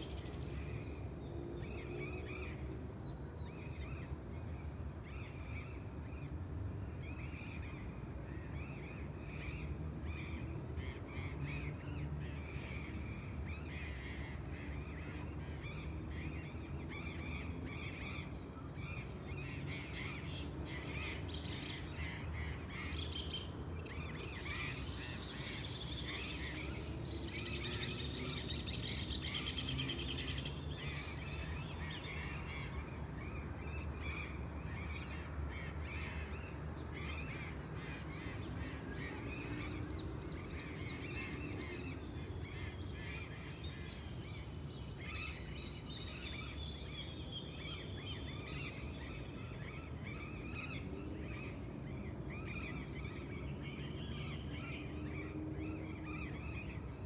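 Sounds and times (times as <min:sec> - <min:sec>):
distant traffic rumble: 0:00.0 - 0:57.0
birds chirping and calling: 0:08.6 - 0:57.0.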